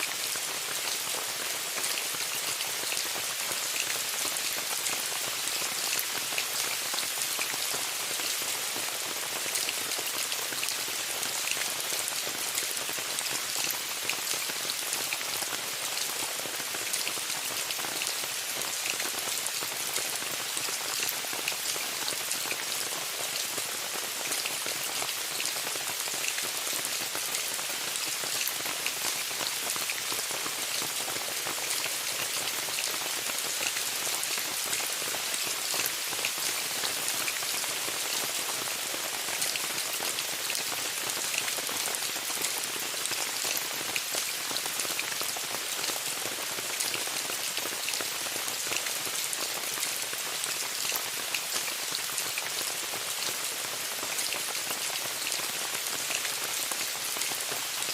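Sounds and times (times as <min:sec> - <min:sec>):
rain falling on a tent: 0:00.0 - 0:57.9.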